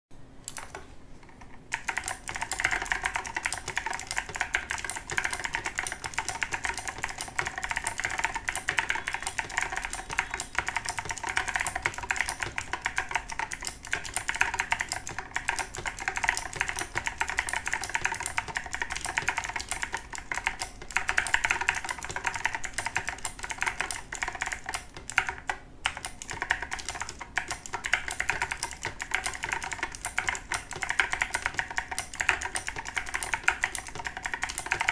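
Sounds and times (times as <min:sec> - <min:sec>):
fast typing on mechanical keyboard: 0:00.5 - 0:34.9.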